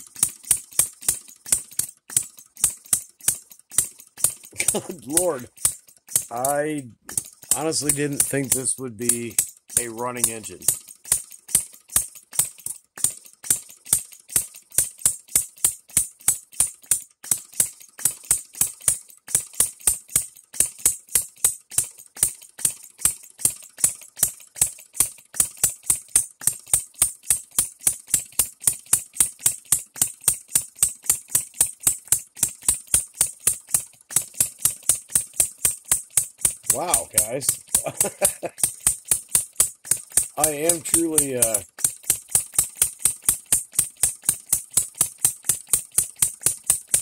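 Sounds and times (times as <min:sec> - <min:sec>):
model engine running: 0:00.0 - 0:47.0.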